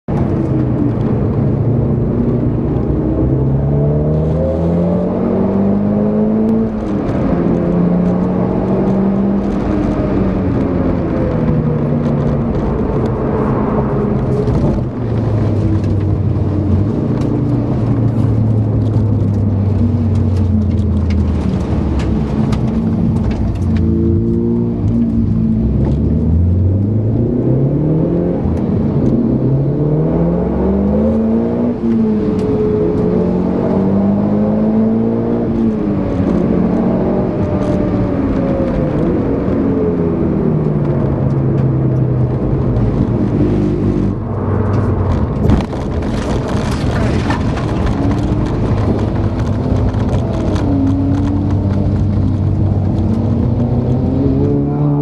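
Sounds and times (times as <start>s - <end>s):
road and tyre noise: 0.0s - 55.0s
car engine revving: 0.1s - 55.0s.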